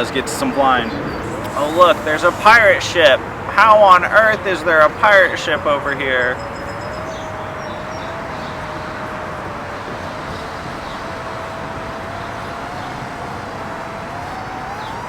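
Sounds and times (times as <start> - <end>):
propeller air rush: 0.0 - 15.0
quadcopter motor whine: 0.0 - 15.0.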